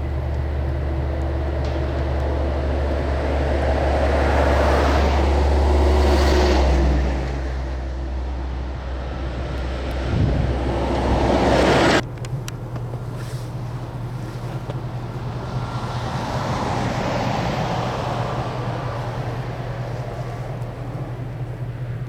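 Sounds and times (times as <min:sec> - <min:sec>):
tyre and road noise: 0:00.0 - 0:22.0
vehicle engine running: 0:00.0 - 0:22.0.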